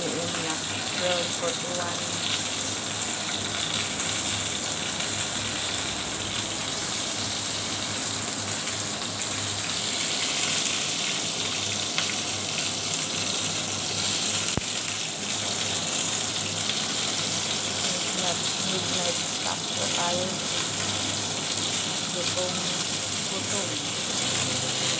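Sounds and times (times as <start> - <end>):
spring rolls frying in oil: 0.0 - 24.9.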